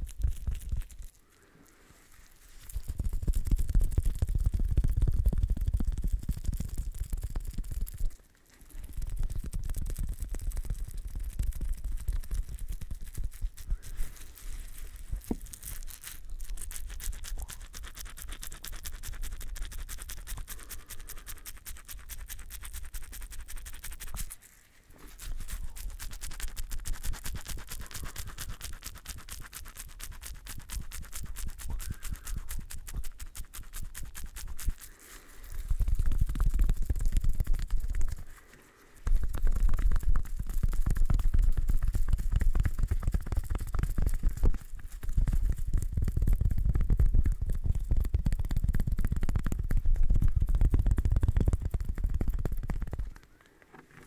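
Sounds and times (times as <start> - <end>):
scratchy brushing: 0.0 - 54.0.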